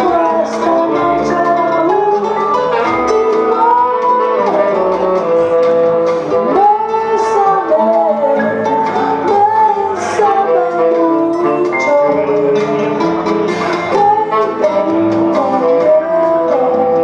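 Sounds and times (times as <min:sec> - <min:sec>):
instrumental accompaniment: 0:00.0 - 0:17.0
person singing: 0:00.0 - 0:17.0.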